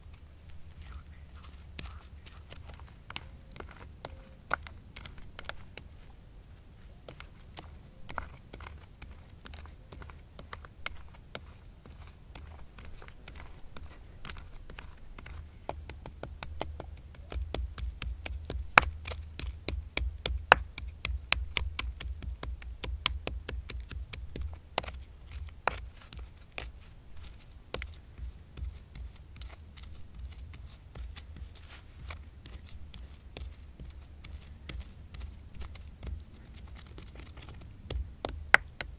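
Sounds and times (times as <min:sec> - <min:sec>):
acorns crunching and scraping: 0:00.0 - 0:38.9.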